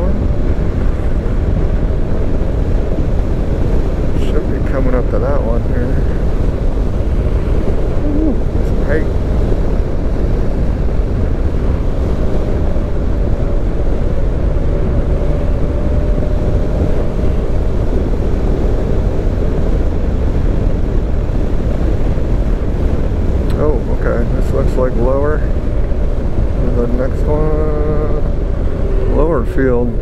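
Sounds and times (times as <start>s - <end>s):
vehicle road noise rumble: 0.0s - 30.0s.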